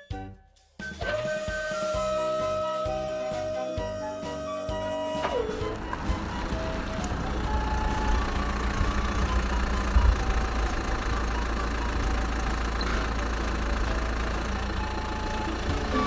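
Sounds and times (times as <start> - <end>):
engine running with low rumble: 1.0 - 16.0.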